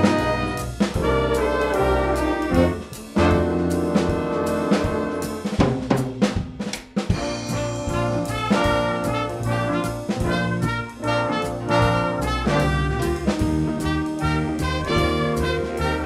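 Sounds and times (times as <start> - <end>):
brass ensemble chords: 0.0 - 16.0
snare and drum hits: 2.4 - 16.0.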